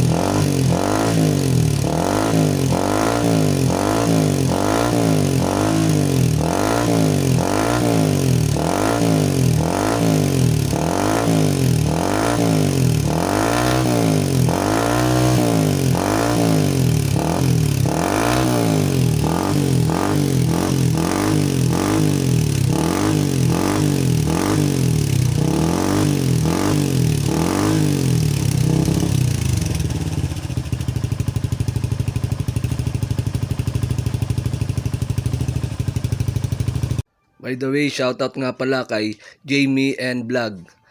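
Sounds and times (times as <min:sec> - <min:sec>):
motorcycle engine idling: 0:00.0 - 0:37.0
motorcycle engine revving: 0:00.0 - 0:37.1.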